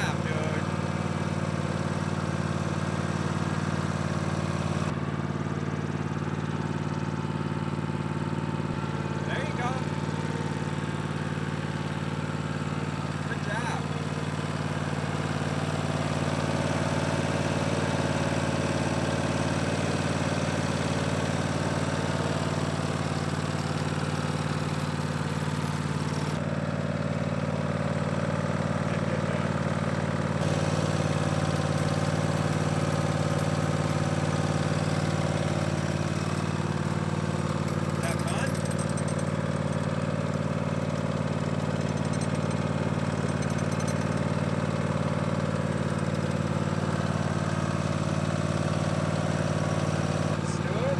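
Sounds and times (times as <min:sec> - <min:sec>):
riding lawn mower engine running: 0:00.0 - 0:50.9.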